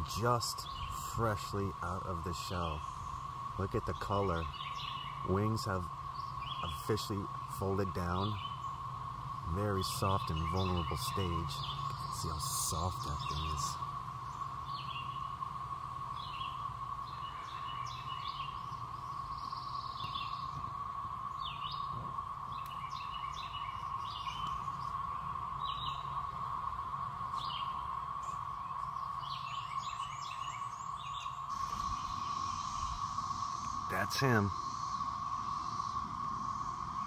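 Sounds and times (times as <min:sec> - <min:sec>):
cicada chorus drone: 0:00.0 - 0:37.0
songbirds chirping: 0:00.0 - 0:37.0.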